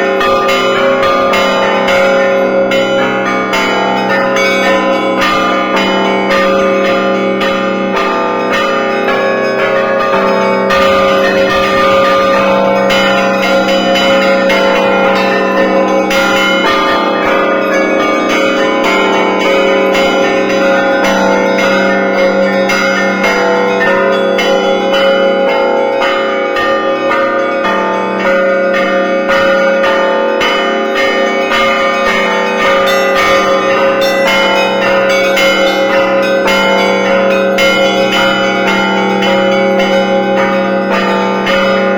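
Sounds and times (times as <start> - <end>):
large bells ringing: 0.0 - 41.9.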